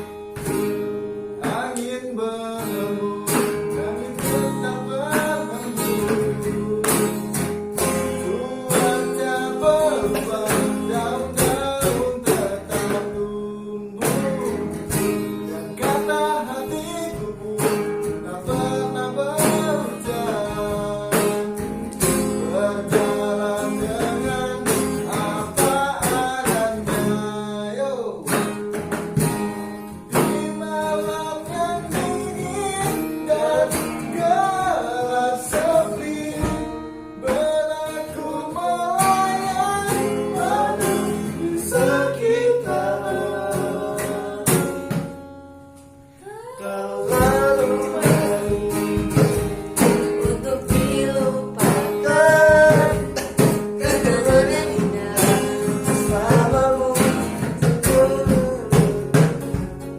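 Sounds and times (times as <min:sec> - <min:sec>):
strummed acoustic guitar: 0:00.0 - 0:59.9
person singing pop ballad: 0:01.3 - 0:28.7, 0:29.9 - 0:45.2, 0:46.2 - 0:59.9.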